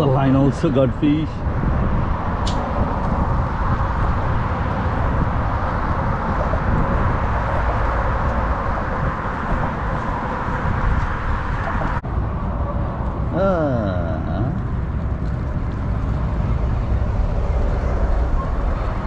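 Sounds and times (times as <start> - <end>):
traffic rushing on a bridge: 0.0 - 19.0.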